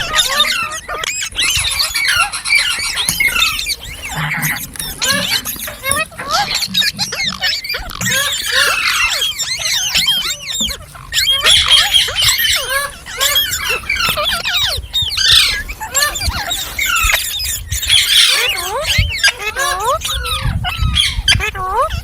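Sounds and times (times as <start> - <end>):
parrots squawking and chattering: 0.0 - 22.0.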